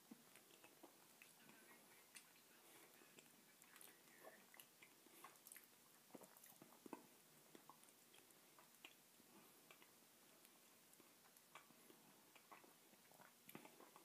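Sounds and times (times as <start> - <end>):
person chewing with crunches: 0.0 - 14.0.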